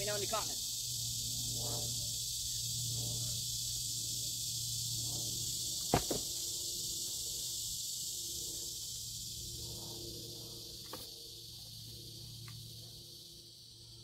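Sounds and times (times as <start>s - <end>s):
high-pitched insect hiss: 0.0s - 14.0s.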